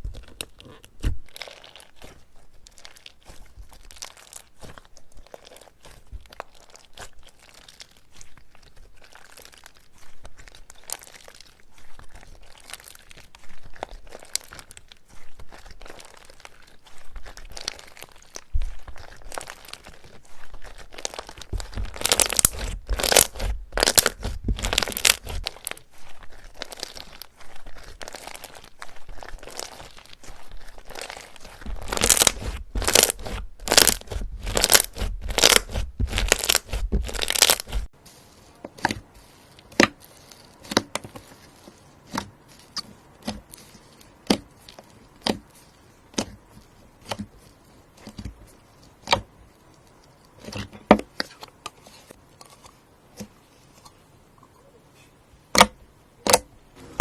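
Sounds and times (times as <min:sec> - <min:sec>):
slime crackling and crunching: 0:00.0 - 0:52.7.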